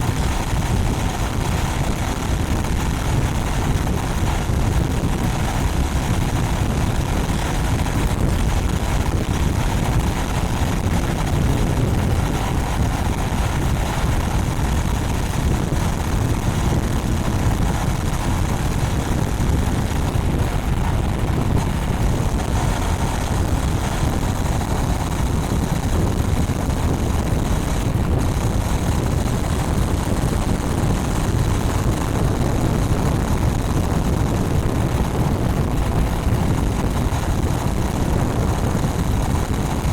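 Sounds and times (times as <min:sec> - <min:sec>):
motorcycle engine at steady speed: 0:00.0 - 0:39.9
wind noise on microphone: 0:00.0 - 0:39.9.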